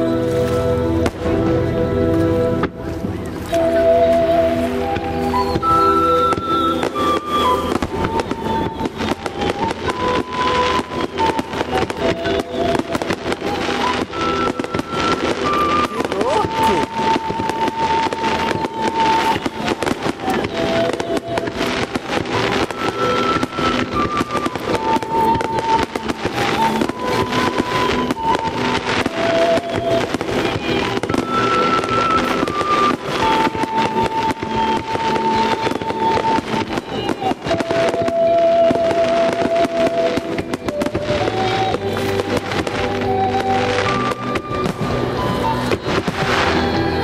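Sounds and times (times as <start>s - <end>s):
fireworks bursting and crackling: 0.0s - 47.0s
music with long held notes: 0.0s - 47.0s
steady high tone: 0.0s - 47.0s.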